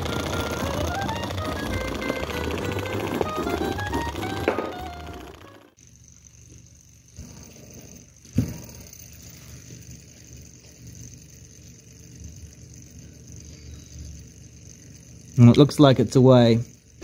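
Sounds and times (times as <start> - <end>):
small engine mechanical whirr: 0.0 - 17.0.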